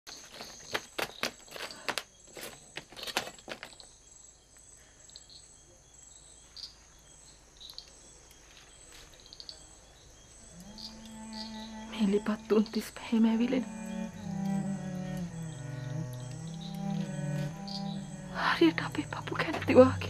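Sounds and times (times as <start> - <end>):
crickets chirping: 0.1 - 20.0.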